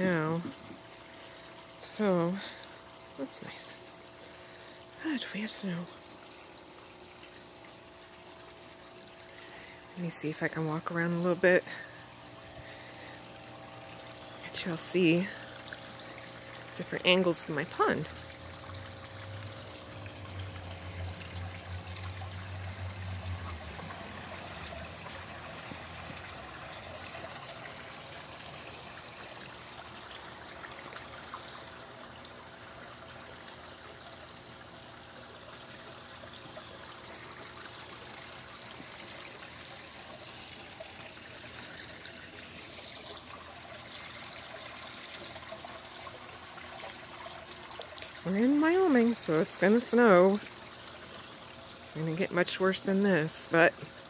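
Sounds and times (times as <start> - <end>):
water trickling into pond: 0.0 - 54.0.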